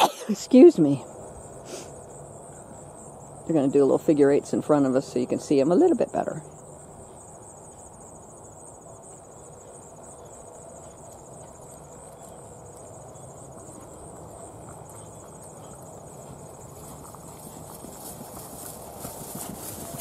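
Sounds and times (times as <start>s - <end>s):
crickets trilling: 0.0s - 20.0s
faint hoofbeats on grass: 0.6s - 20.0s.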